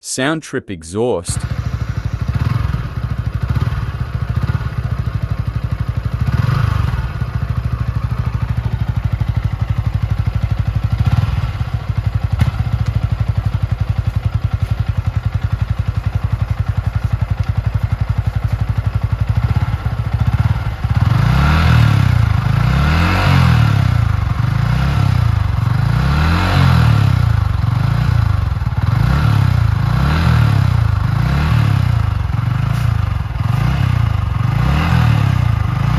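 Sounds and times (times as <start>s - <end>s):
motorcycle engine revving: 1.3s - 35.9s
motorcycle engine idling: 1.4s - 35.9s.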